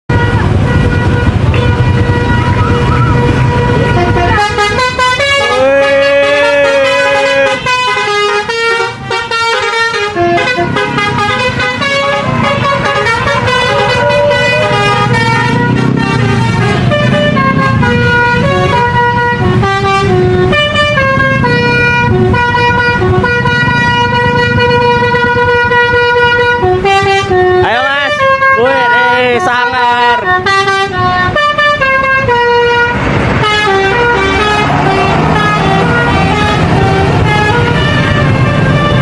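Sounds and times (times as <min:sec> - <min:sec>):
musical bus horns: 0:00.1 - 0:39.0.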